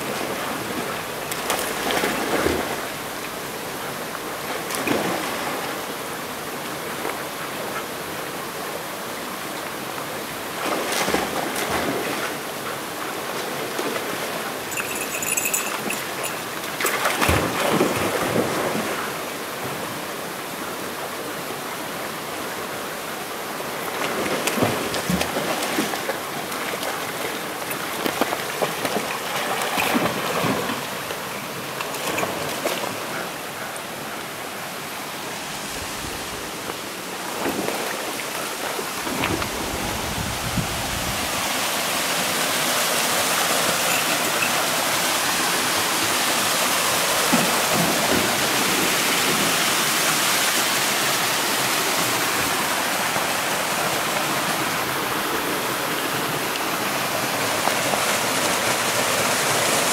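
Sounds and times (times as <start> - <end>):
small waterfall cascade: 0.0 - 14.7, 16.0 - 59.9
river water rushing over rocks: 0.0 - 59.9.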